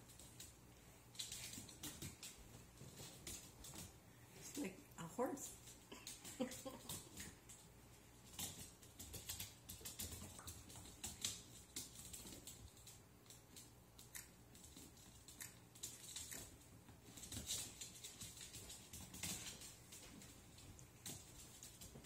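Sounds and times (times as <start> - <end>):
puppy claws on wooden floor: 0.0 - 4.6, 5.4 - 22.0
low steady hum: 0.0 - 22.0.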